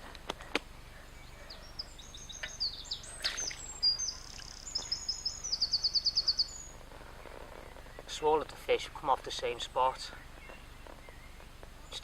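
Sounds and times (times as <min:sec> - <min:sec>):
faint outdoor background noise: 0:00.0 - 0:12.0
songbird singing chirps and trills: 0:00.0 - 0:12.0.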